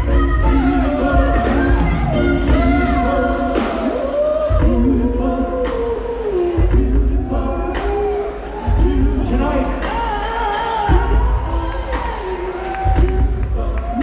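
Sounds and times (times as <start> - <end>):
choir singing: 0.0 - 14.0
live band playing: 0.0 - 14.0.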